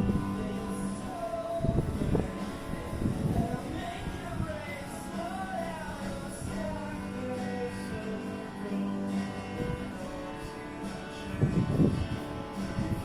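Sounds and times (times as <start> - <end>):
guitar: 0.0 - 13.0
person singing: 0.0 - 13.0.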